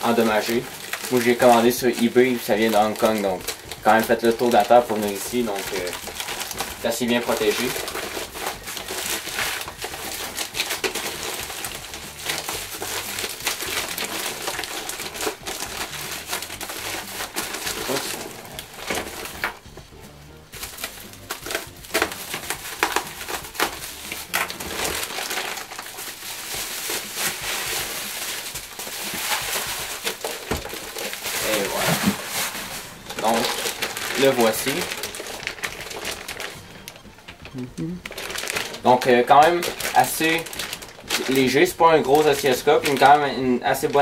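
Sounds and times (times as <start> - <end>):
bubble wrap crinkling: 0.0 - 44.0.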